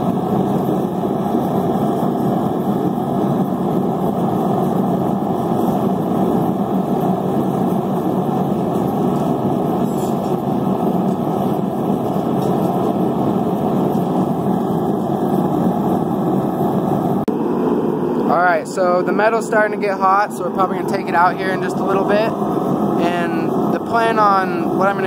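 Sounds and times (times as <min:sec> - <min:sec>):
forge rushing noise: 0:00.0 - 0:25.0.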